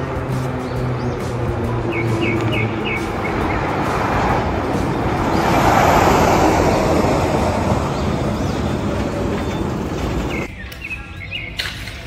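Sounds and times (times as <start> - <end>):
heavy lorry passing: 0.0 - 10.5.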